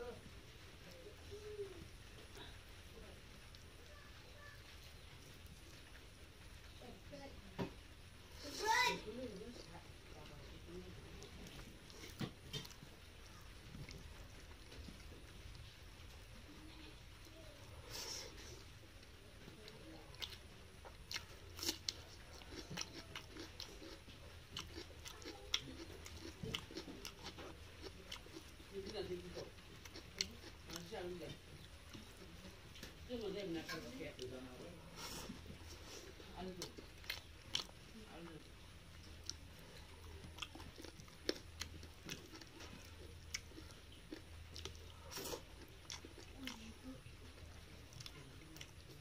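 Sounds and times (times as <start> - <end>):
soft chewing: 0.0 - 49.0.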